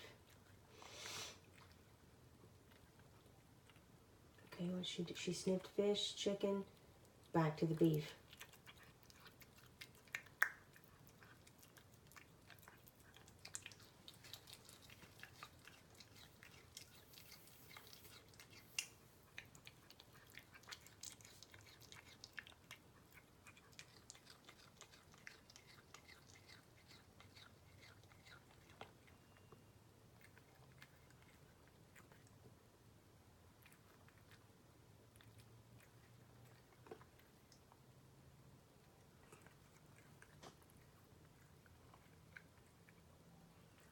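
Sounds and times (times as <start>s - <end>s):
cat chewing meat: 0.0s - 0.8s, 1.4s - 4.5s, 6.6s - 43.9s.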